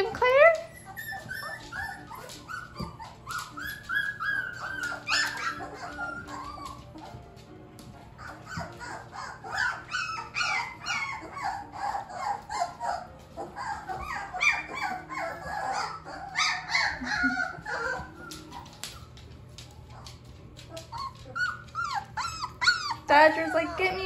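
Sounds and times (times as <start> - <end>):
puppies whimpering and squealing: 0.0 - 24.0.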